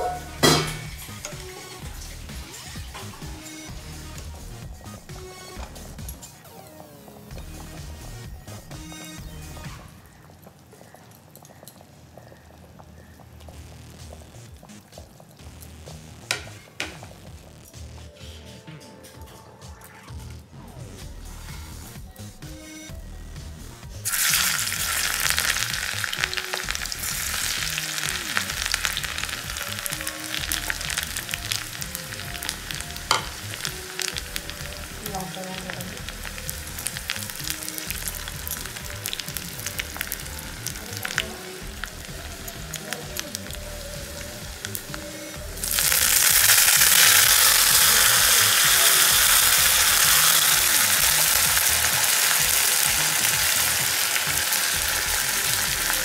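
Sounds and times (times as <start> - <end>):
spices sizzling in hot oil: 0.0 - 17.3, 23.9 - 56.0.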